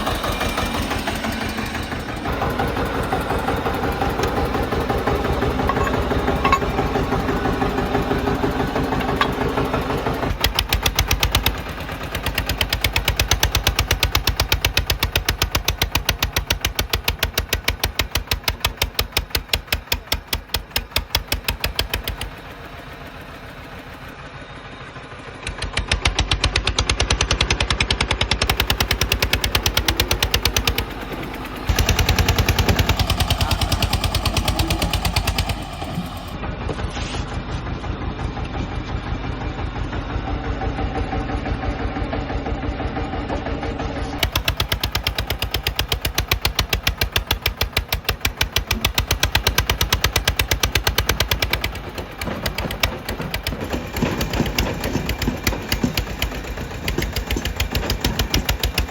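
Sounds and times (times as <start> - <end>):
tractor diesel engines chugging: 0.0 - 58.9.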